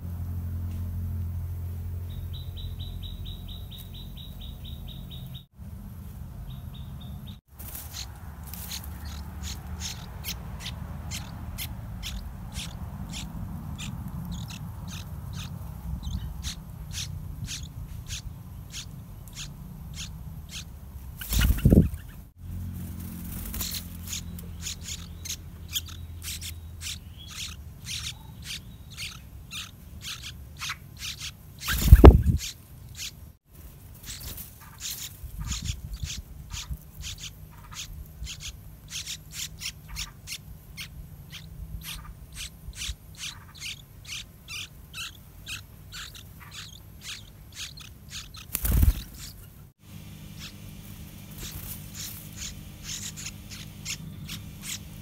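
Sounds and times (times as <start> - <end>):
nestlings begging chirps: 1.9 - 5.5, 6.4 - 22.4, 23.0 - 33.2, 34.0 - 55.0.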